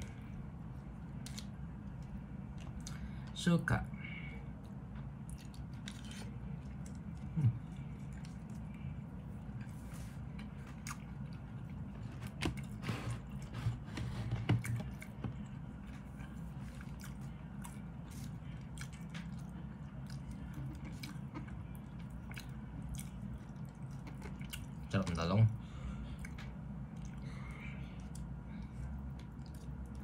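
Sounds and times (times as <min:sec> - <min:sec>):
person chewing food: 0:00.0 - 0:03.3, 0:04.5 - 0:24.9, 0:25.8 - 0:30.0.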